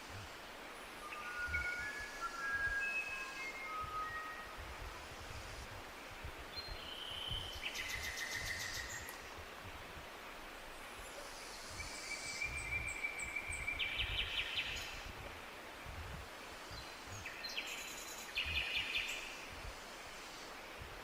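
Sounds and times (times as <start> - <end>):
songbirds singing: 0.0 - 9.8, 10.4 - 20.5
steady background hiss: 0.0 - 21.0.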